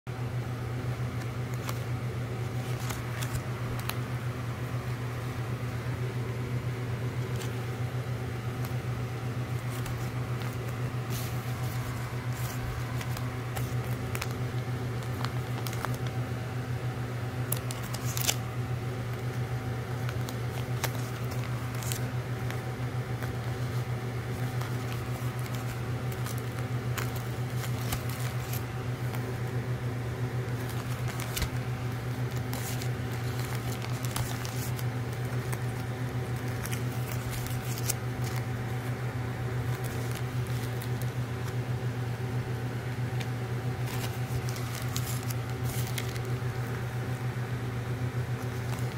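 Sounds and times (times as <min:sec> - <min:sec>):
steady low hum: 0:00.1 - 0:48.9
vinyl records in plastic sleeves rustling: 0:00.9 - 0:05.0, 0:07.1 - 0:41.6, 0:42.8 - 0:48.9.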